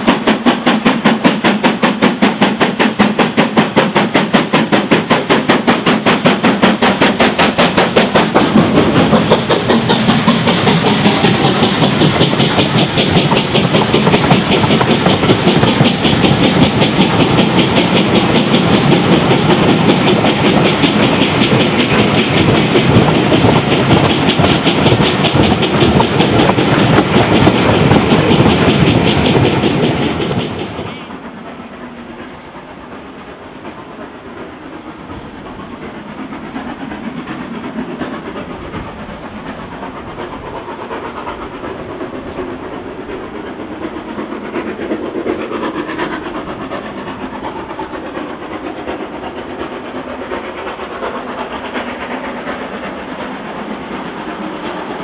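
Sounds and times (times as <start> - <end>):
distant steam locomotive working: 0.0 - 55.0
train wheels clicking over rail joints: 0.0 - 55.0.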